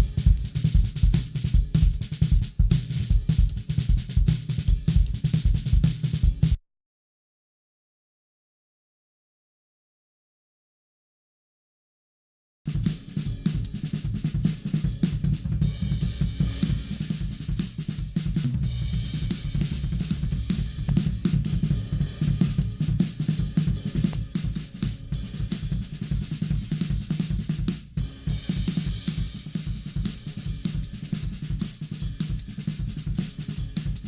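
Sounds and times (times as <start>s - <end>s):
drum kit playing steady groove: 0.0s - 6.6s, 12.7s - 34.0s.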